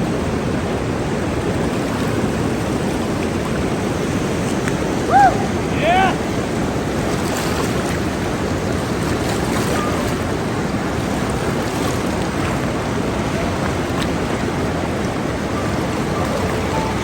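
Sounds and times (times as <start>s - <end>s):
fast river rushing: 0.0s - 17.0s.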